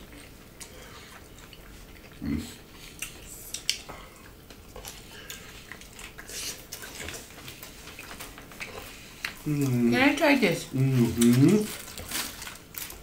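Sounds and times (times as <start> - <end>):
quiet chewing: 0.0 - 13.0.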